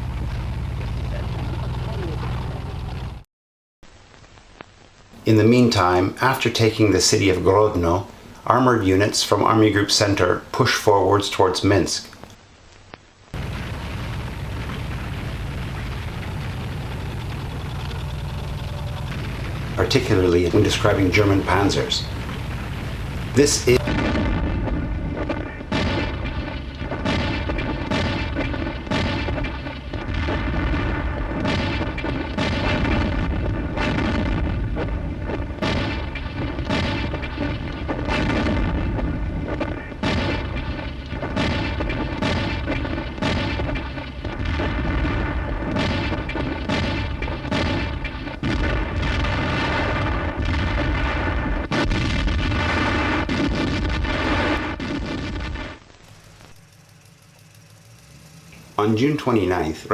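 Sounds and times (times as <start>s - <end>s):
booms of gunfire and explosions: 0.0s - 3.1s, 4.0s - 59.9s
heavy rumble: 0.0s - 3.3s, 13.3s - 59.9s.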